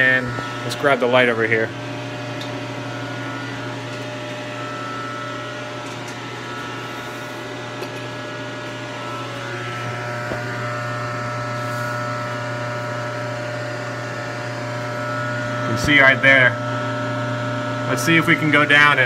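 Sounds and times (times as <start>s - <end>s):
machine electrical hum: 0.0s - 19.0s.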